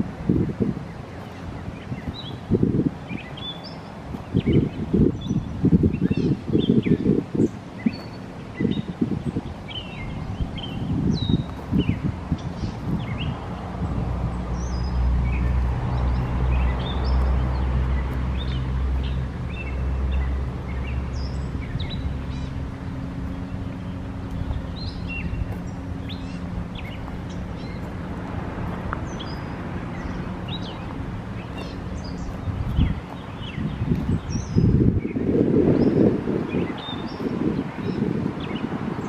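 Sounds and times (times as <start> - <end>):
steady low hum: 0.0 - 37.6
songbirds chirping: 0.0 - 39.0.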